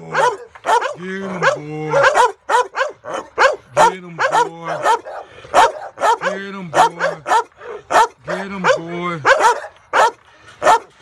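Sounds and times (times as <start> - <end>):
dog barking: 0.1 - 11.0.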